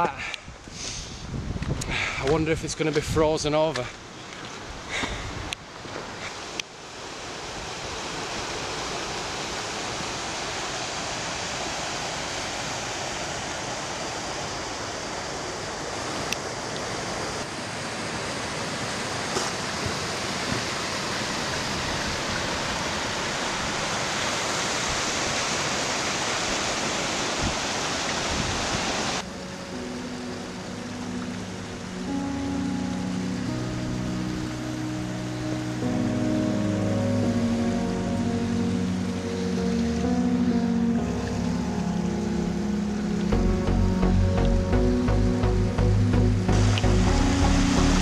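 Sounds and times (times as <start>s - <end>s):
stream rushing over rocks: 0.0s - 45.1s, 46.4s - 48.0s.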